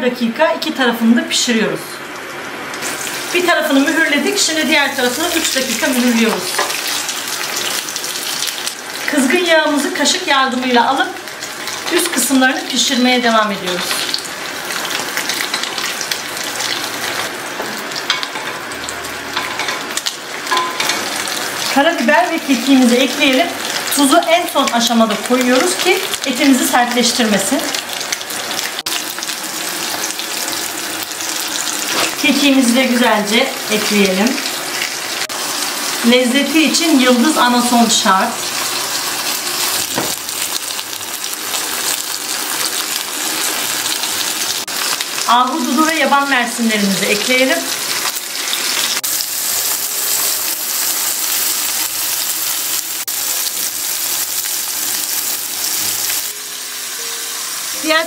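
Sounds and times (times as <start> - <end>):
steaks sizzling in butter: 2.8 - 58.0.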